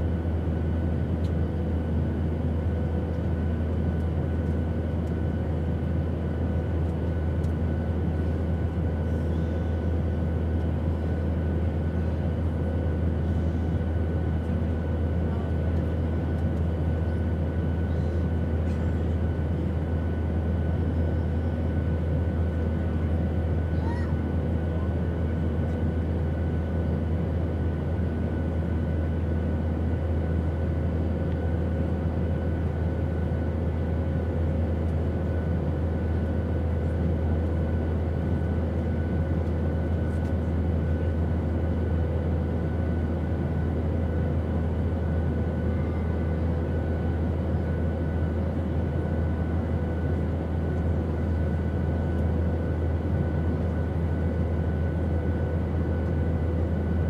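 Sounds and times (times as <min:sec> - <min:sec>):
airplane engine rumble: 0:00.0 - 0:57.0.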